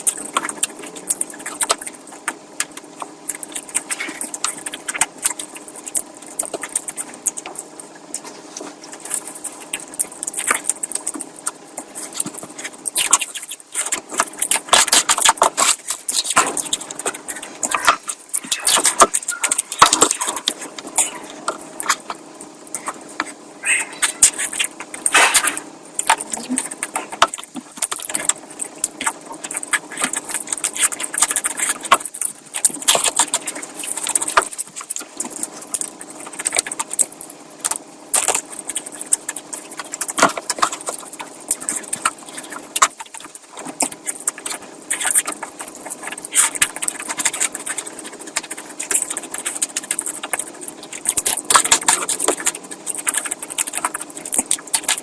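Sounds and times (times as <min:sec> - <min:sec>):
wet chewing and lip smacking: 0:00.0 - 0:55.0.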